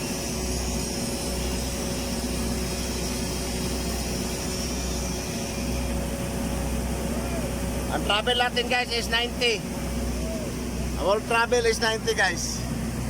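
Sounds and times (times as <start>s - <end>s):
welding machine hum: 0.0s - 13.0s.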